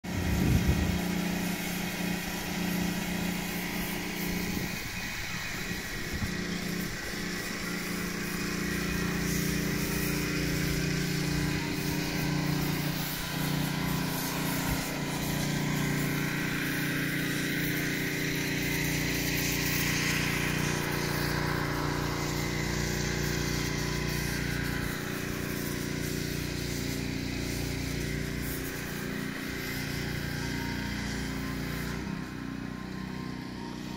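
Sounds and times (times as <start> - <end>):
leaf blower running: 0.0 - 33.9.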